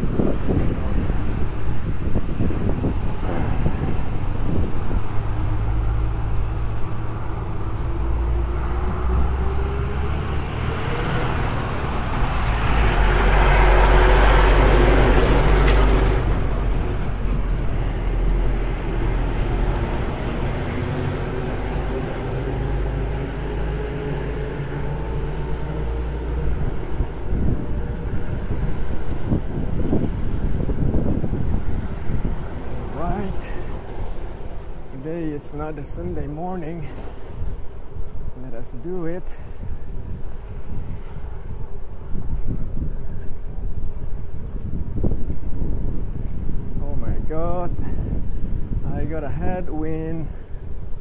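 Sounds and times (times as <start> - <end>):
heavy vehicle engine passing: 0.0 - 42.9.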